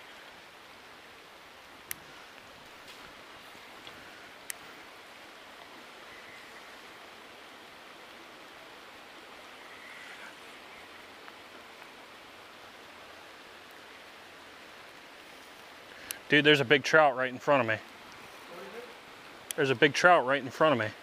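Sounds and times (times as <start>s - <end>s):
creek water hissing: 0.0s - 21.0s
light rain on water: 0.0s - 21.0s.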